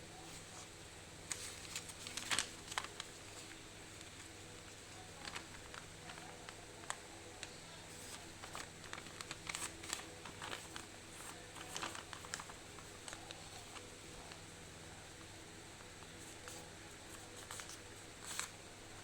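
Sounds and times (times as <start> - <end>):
low steady hum: 0.0 - 19.0
paper crinkling and tapping: 0.2 - 19.0.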